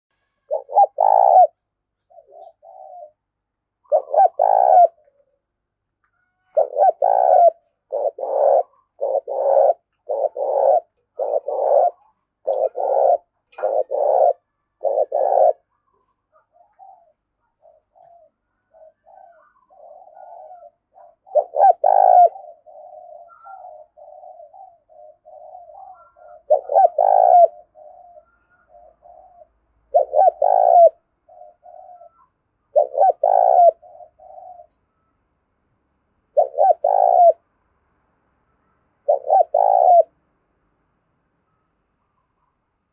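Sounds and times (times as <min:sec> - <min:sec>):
dove cooing: 0:00.5 - 0:05.4, 0:06.2 - 0:34.8, 0:36.3 - 0:37.4, 0:39.0 - 0:40.2.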